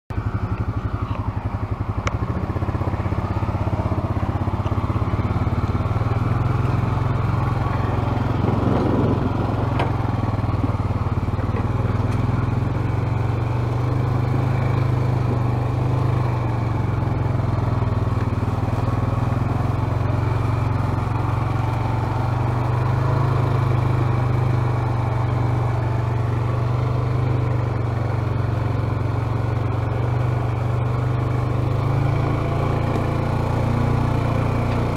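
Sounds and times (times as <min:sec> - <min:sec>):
atv engine running: 0:00.1 - 0:34.9.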